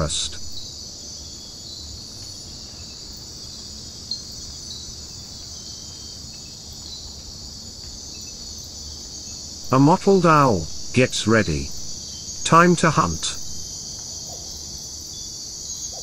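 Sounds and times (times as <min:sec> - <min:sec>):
insect chorus high drone: 0:00.0 - 0:16.0.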